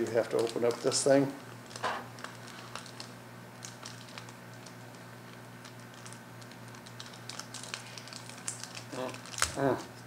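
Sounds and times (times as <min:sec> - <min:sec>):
plastic packaging crinkling: 0:00.0 - 0:10.0
steady low hum: 0:00.0 - 0:10.0.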